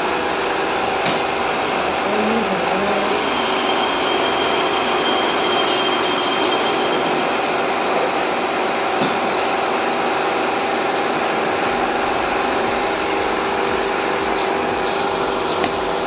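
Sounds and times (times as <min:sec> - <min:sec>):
furnace drone and hum: 0:00.0 - 0:16.0
thin high whine: 0:00.0 - 0:16.0.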